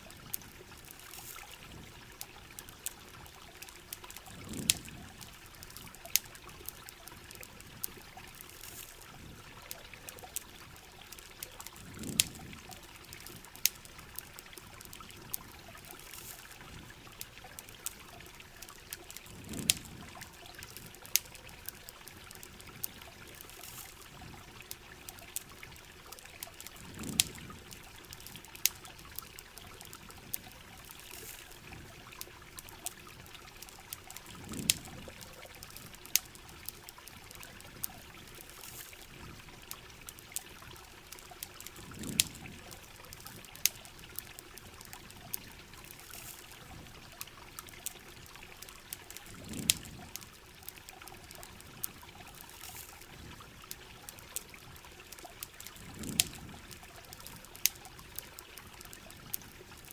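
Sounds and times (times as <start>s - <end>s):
campfire crackling and popping: 0.0s - 59.9s
steady rain: 0.0s - 59.9s
trickling water: 0.0s - 59.9s.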